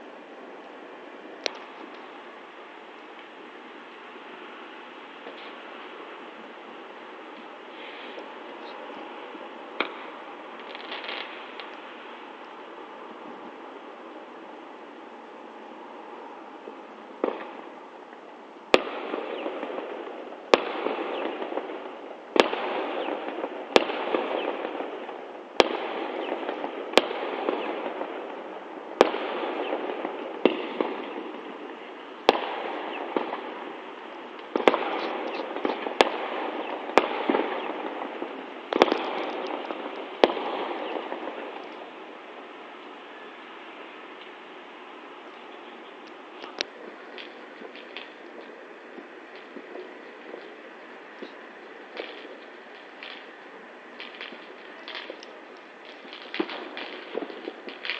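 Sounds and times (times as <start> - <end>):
fireworks banging: 0.0 - 13.6, 16.6 - 57.9
fireworks crackling: 0.0 - 57.9.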